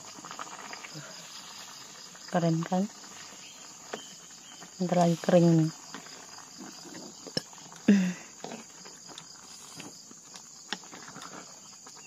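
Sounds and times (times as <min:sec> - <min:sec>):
insects chirring: 0:00.0 - 0:12.0
ladle stirring rice in pot: 0:00.0 - 0:12.0.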